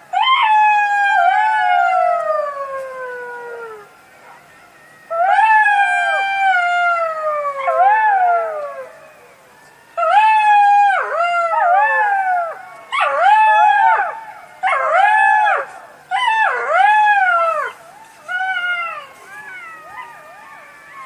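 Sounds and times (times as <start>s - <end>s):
fox howling: 0.0s - 4.5s, 5.1s - 9.3s, 10.0s - 21.0s.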